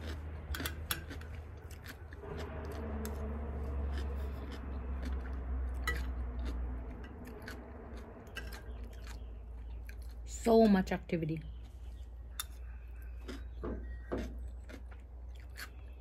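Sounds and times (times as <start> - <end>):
low highway rumble: 0.0 - 16.0.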